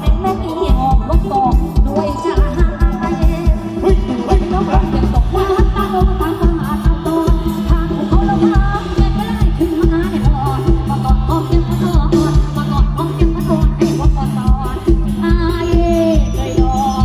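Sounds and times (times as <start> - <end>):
electric guitar: 0.0 - 17.0
live band over loudspeakers: 0.0 - 17.0
person singing: 0.0 - 17.0.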